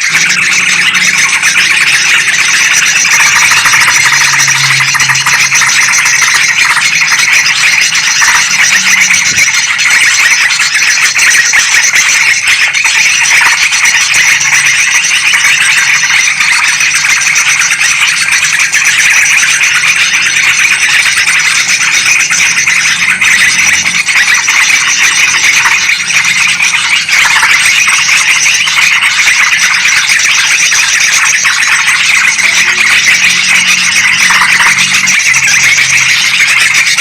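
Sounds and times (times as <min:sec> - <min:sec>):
bulbul birds chattering: 0:00.0 - 0:37.0.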